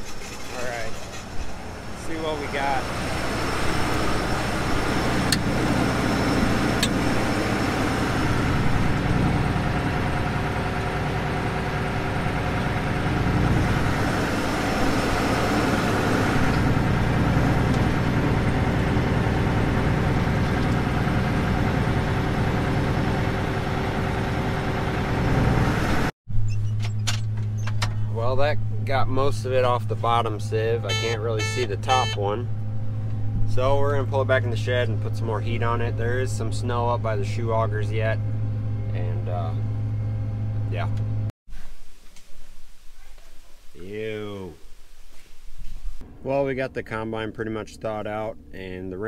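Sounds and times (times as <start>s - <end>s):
combine harvester droning: 0.0s - 26.1s, 27.0s - 41.3s, 45.9s - 49.0s.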